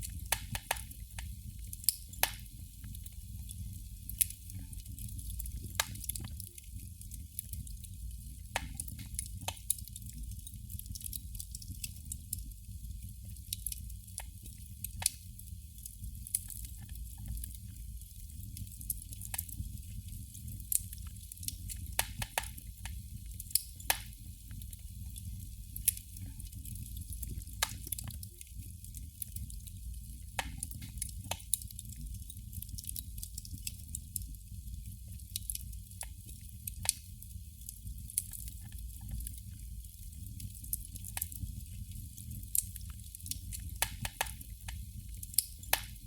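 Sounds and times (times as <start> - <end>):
candle flame crackling: 0.0 - 46.0
low rumble and hiss: 0.0 - 46.0.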